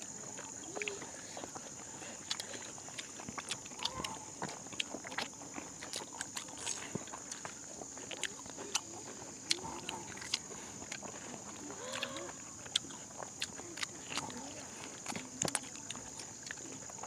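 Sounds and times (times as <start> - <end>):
chewing and smacking: 0.0 - 17.0.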